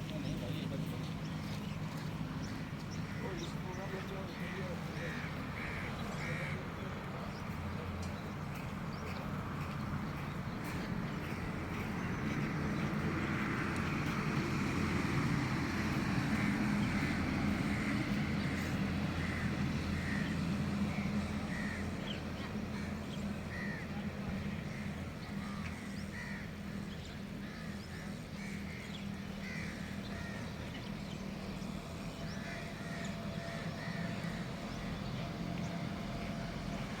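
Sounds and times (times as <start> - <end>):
flock of birds calling: 0.0 - 37.0
steady low hum: 0.0 - 37.0.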